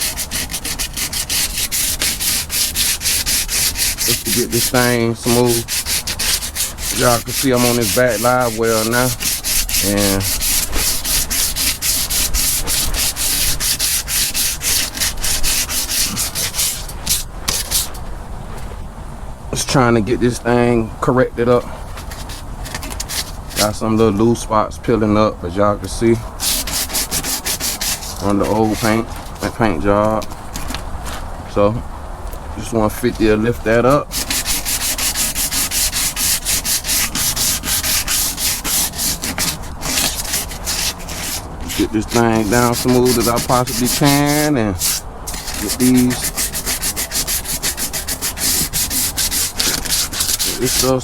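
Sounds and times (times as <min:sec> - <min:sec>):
sandpaper scratching strokes: 0:00.0 - 0:18.0, 0:21.5 - 0:24.2, 0:26.3 - 0:29.7, 0:33.0 - 0:51.0.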